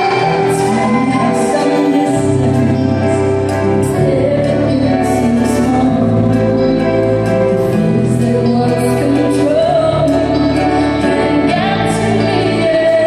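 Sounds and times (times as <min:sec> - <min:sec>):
instrumental backing: 0:00.0 - 0:13.0
woman singing: 0:00.0 - 0:13.0.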